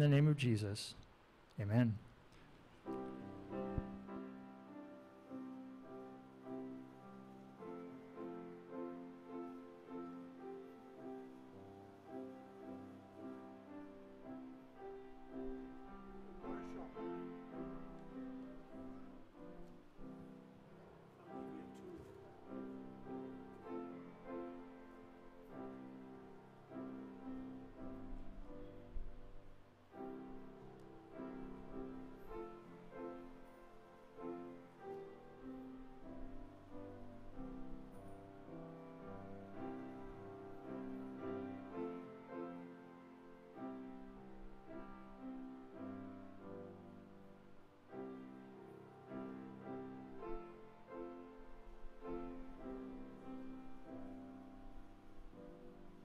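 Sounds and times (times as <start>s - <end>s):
grand piano playing softly: 0.0s - 0.8s, 2.6s - 56.0s.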